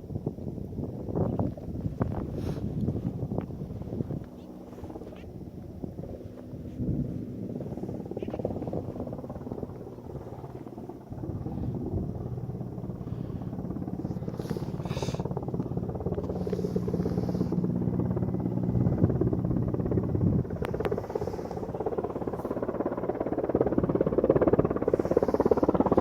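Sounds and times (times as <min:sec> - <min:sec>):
helicopter rotor chop: 0:00.0 - 0:26.0
low hum: 0:00.0 - 0:26.0.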